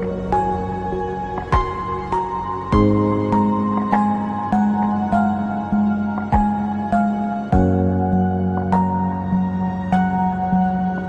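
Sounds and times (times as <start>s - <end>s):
calm new-age music: 0.0s - 11.0s.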